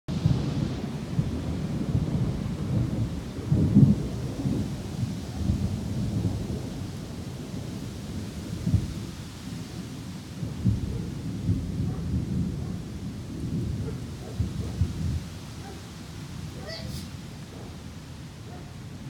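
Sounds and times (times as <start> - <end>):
distant thunder rumbling: 0.1 - 19.0
wind gusts: 0.1 - 19.0.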